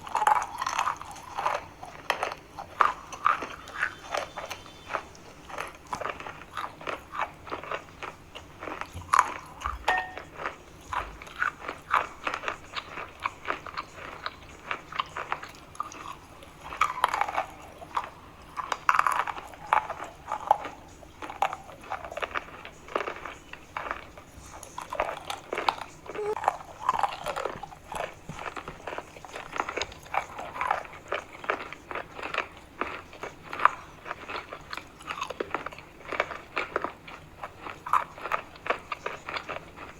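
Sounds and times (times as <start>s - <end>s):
soft chewing: 0.0s - 39.9s.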